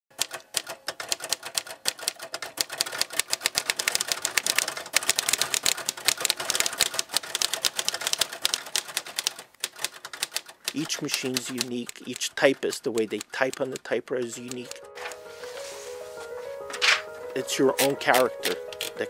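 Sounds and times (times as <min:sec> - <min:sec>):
typewriter keys clicking: 0:00.1 - 0:15.1, 0:17.7 - 0:19.0.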